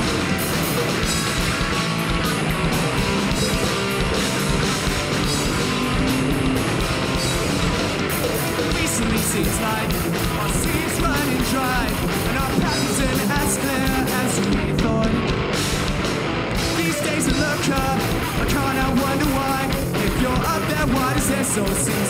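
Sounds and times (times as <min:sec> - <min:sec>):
bass guitar: 0:00.0 - 0:22.0
drum kit with crashing cymbals: 0:00.0 - 0:22.0
electric guitars: 0:00.0 - 0:22.0.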